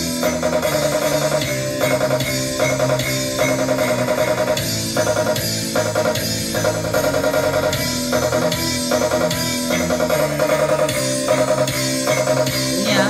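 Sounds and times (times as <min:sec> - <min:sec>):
guitar and drum music over loudspeakers: 0:00.0 - 0:13.0.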